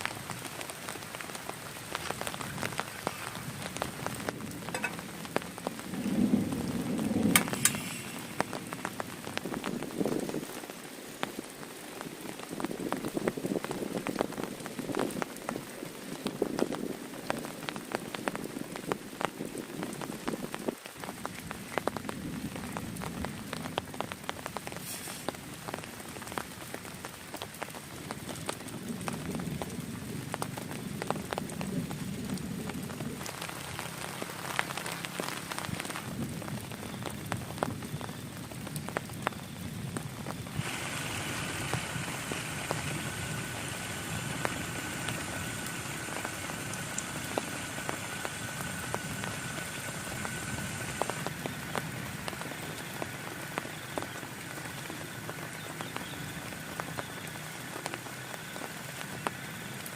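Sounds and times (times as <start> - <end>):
heavy rain falling: 0.0 - 59.9
raindrops tapping close by: 0.0 - 59.9.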